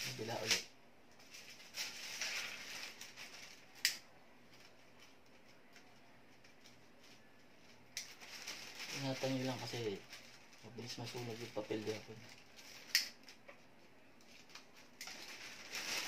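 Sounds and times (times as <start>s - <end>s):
paper rustling and crinkling: 0.0s - 3.8s, 4.5s - 16.0s.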